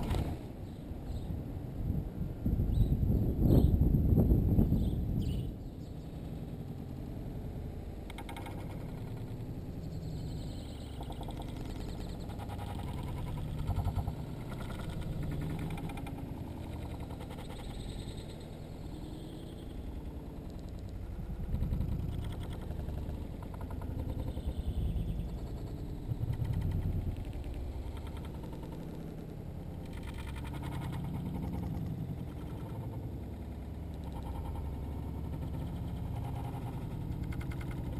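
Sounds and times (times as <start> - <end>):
wing flutters: 0.0 - 0.8, 6.0 - 37.9
low murky rumble: 0.0 - 37.9
slowed deepened bird chirps: 4.6 - 37.9.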